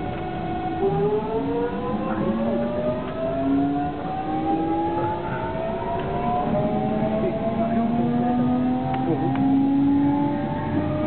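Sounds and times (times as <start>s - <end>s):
electric train motor whine: 0.0s - 11.0s.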